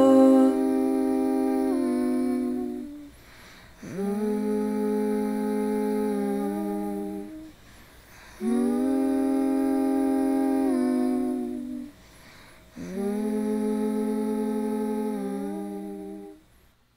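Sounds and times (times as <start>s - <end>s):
voices humming harmony: 0.0s - 16.4s.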